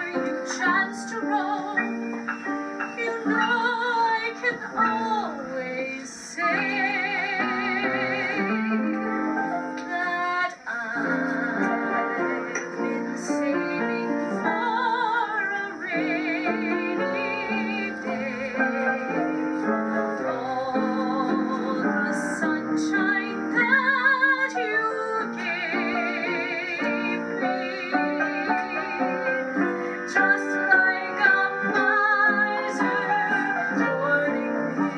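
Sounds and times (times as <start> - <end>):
piano accompaniment: 0.0 - 34.9
slow sentimental song: 0.0 - 34.9.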